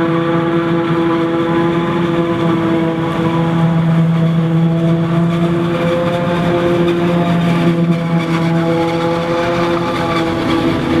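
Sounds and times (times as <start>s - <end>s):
constant even hum: 0.0s - 11.0s
harvester and tractor engine drone: 0.0s - 11.0s.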